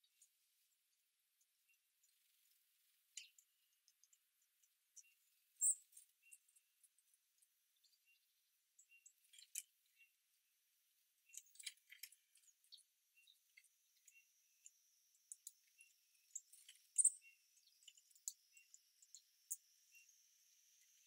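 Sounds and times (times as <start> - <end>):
small birds chipping: 0.0 - 21.0.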